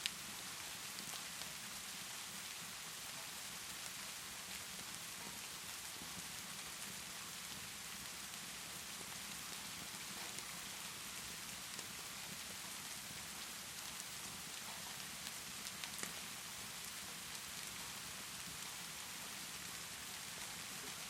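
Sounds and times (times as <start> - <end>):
steady rainfall: 0.0 - 21.0
wood fire crackling: 3.5 - 21.0.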